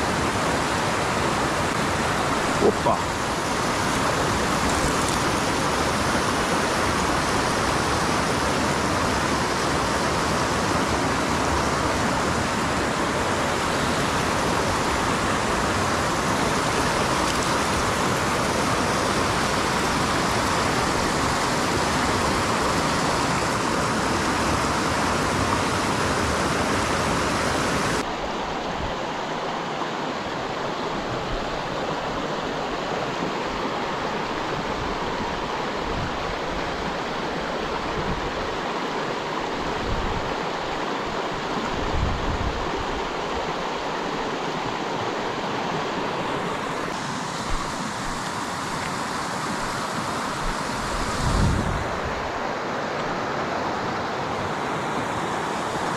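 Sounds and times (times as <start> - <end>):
stream rushing over stones: 0.0 - 55.9.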